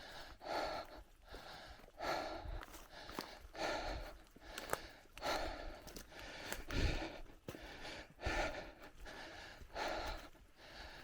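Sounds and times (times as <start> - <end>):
person breathing heavily: 0.0 - 11.0.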